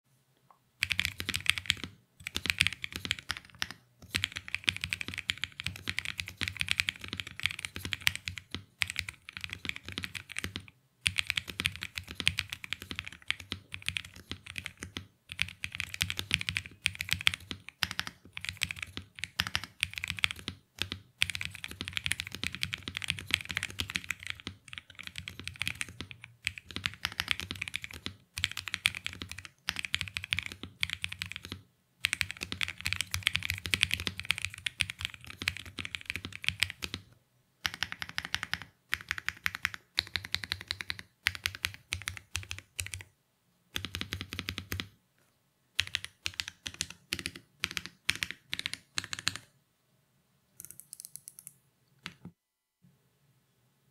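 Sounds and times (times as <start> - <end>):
fast typing on mechanical keyboard: 0.8 - 37.0, 37.6 - 43.1, 43.8 - 44.9, 45.8 - 49.5.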